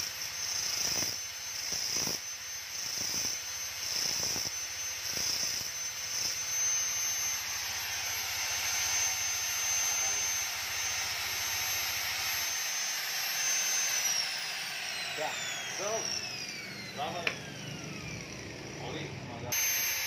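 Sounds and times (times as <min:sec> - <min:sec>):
electric drill whine: 0:00.0 - 0:20.0.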